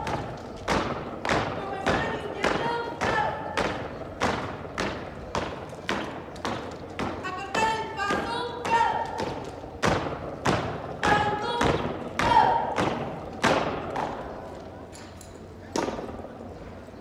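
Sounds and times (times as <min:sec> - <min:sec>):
boots stamping on concrete: 0:00.0 - 0:14.3.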